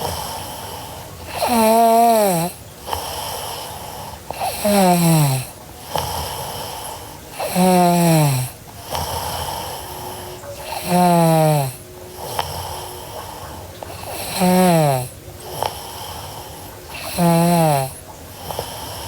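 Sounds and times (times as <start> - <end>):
girl snoring: 0.0 - 19.0
quiet breathing: 0.0 - 19.0.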